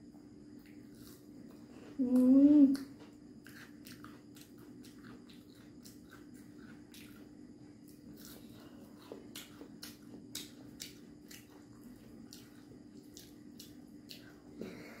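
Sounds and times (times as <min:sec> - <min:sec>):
wet chewing: 0:00.5 - 0:14.5.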